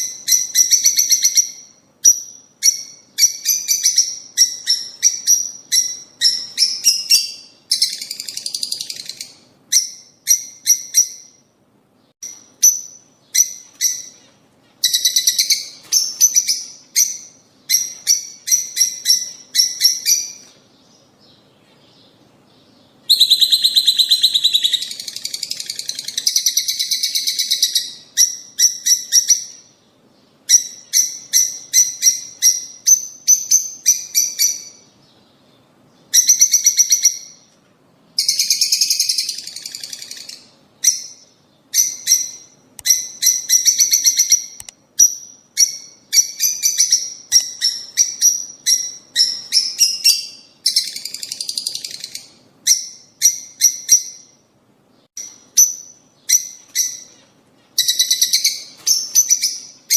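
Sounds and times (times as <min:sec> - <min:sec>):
birds shrill chirping: 0:00.0 - 0:37.6, 0:38.2 - 0:59.9.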